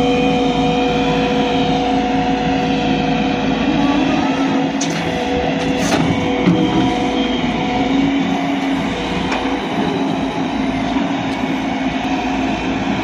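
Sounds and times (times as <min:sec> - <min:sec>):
diesel engine under load: 0:00.0 - 0:13.0
steady whine: 0:00.0 - 0:13.0.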